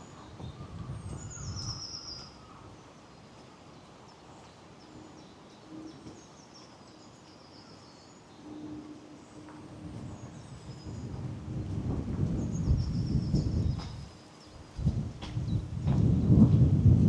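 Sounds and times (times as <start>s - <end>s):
songbirds singing: 0.0s - 15.8s.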